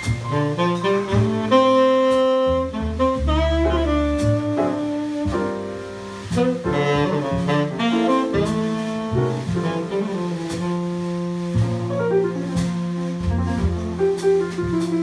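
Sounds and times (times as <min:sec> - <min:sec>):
piano chords: 0:00.0 - 0:15.0
upright bass: 0:00.0 - 0:15.0
tenor saxophone playing: 0:00.1 - 0:14.2.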